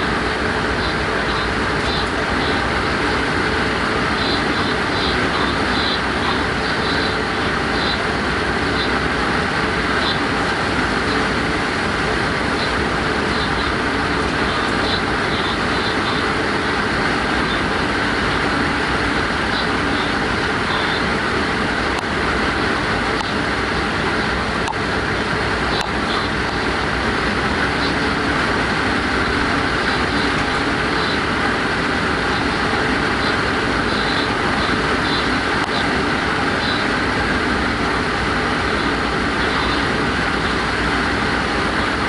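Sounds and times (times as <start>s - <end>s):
electric locomotive running: 0.0s - 42.0s.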